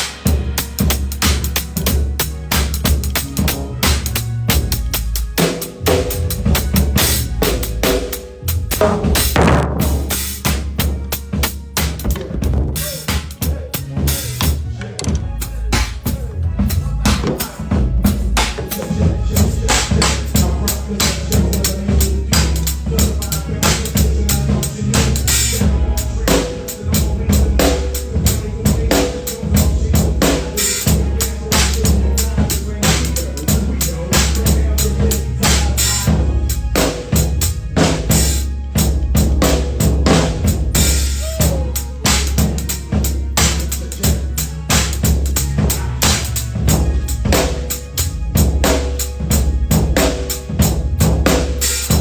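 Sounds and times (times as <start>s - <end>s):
bass: 0.0s - 52.0s
drum kit: 0.0s - 52.0s
keyboard: 0.0s - 52.0s.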